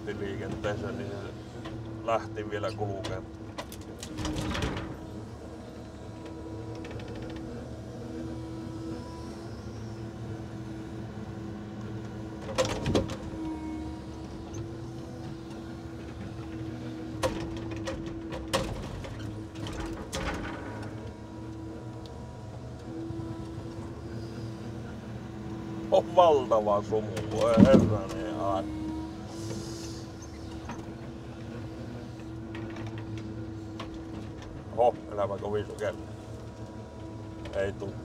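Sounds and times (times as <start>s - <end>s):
engine and hydraulic pump drone: 0.0s - 38.0s.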